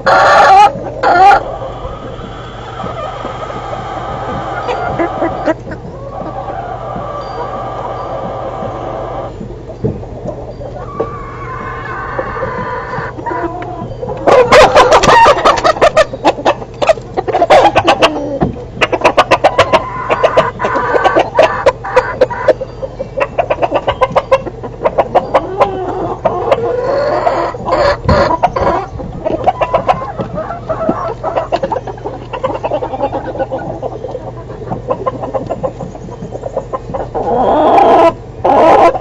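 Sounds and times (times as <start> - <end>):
chickens clucking and cackling: 0.0 - 39.0
steady low hum: 0.0 - 39.0.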